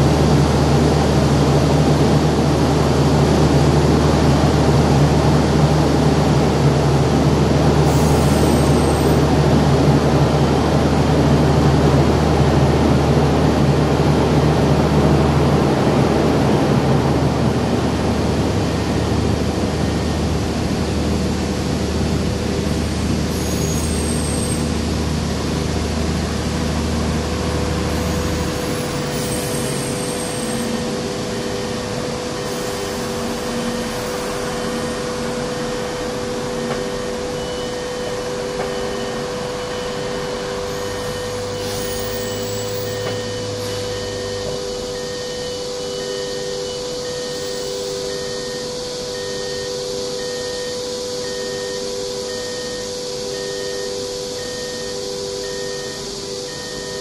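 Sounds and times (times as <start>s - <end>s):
train running hum: 0.0s - 57.0s.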